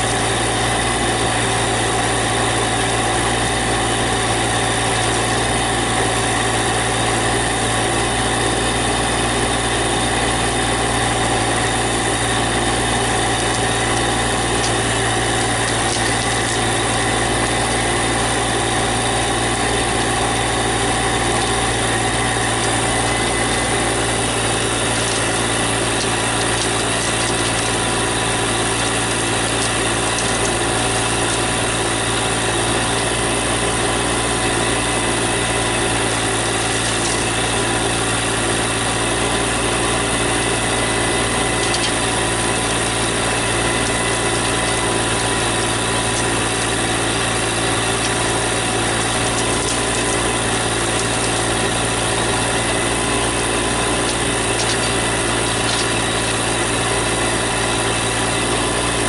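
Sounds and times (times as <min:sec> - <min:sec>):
small diesel engine running: 0:00.0 - 0:59.0.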